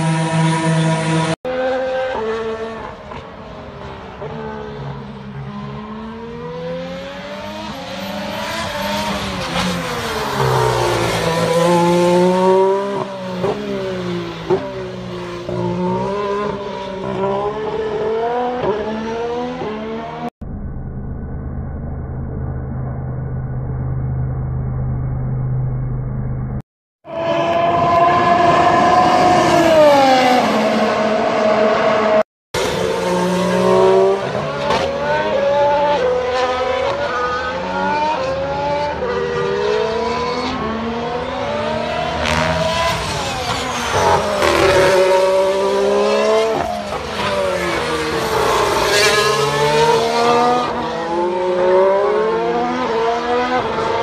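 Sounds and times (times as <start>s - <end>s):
racing cars passing at speed: 0.0s - 20.3s, 27.1s - 54.0s.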